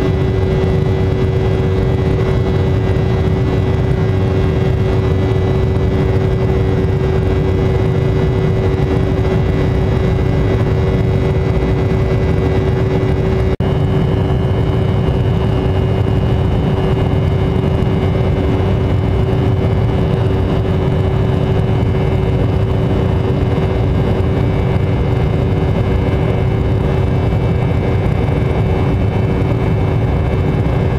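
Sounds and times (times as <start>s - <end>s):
motorcycle engine drone: 0.0s - 30.9s
wind and road noise: 0.0s - 30.9s.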